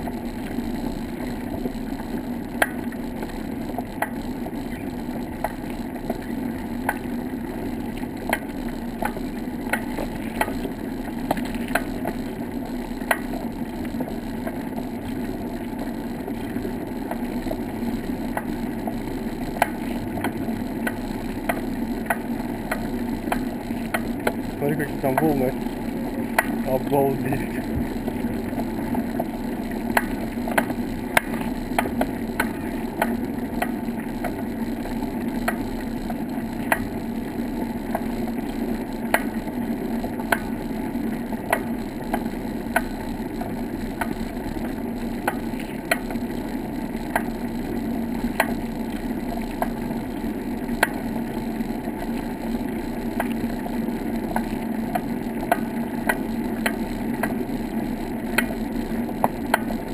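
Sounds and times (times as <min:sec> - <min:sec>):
bicycle rolling on wooden boardwalk: 0:00.0 - 0:59.9.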